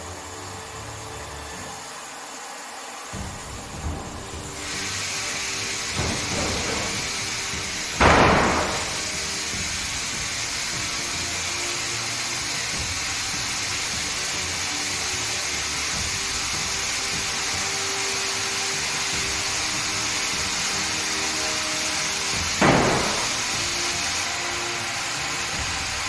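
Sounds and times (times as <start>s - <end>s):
compressed air hissing: 0.0s - 26.0s.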